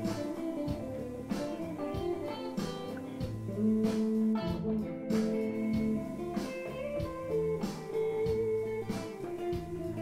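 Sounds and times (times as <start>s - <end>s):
plucked guitar: 0.0s - 10.0s.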